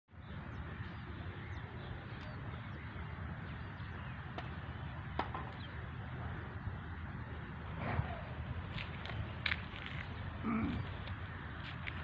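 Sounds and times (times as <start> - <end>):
small birds chirping: 0.1 - 7.4, 8.1 - 12.0.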